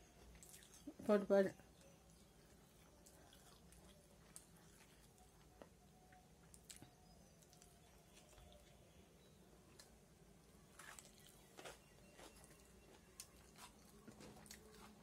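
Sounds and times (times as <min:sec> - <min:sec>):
faint chewing: 0:00.0 - 0:01.0, 0:01.6 - 0:15.0.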